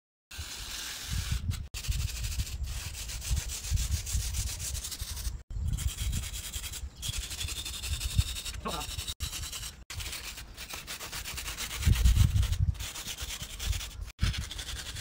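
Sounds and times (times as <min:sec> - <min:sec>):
drawing stick scratching concrete: 0:00.3 - 0:15.0.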